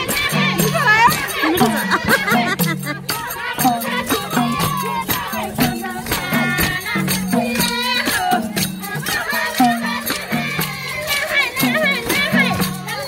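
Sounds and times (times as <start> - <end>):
folk dance music beat: 0.0 - 13.0
jingling rattling percussion: 0.0 - 13.0
people singing: 0.0 - 13.0.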